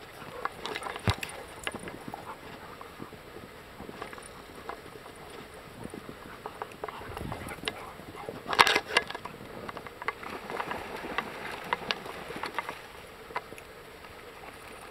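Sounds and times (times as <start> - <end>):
dogs splashing in water: 0.0 - 13.0.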